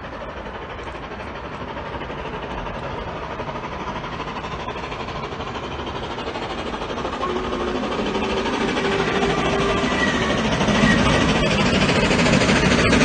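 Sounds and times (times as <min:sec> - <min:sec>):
steam train approaching: 0:00.0 - 0:13.0.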